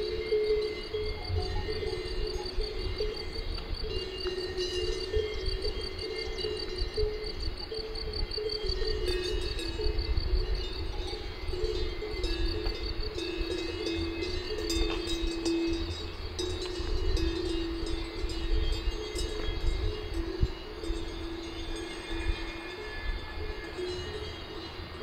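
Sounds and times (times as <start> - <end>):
bells ringing: 0.0 - 25.0.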